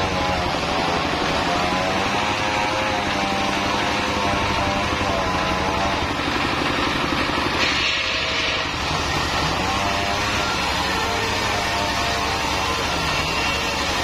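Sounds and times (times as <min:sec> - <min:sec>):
circular saw blade cutting wood: 0:00.0 - 0:14.0
diesel engine running: 0:00.0 - 0:14.0.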